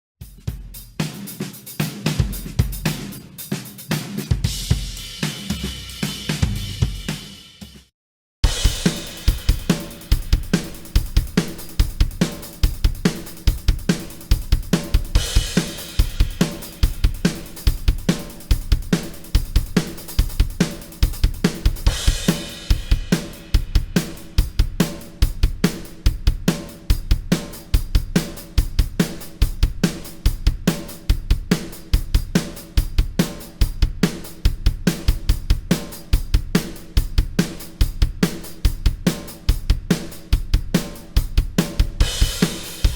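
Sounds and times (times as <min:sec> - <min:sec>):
rock drum kit playing: 0:00.2 - 0:42.9.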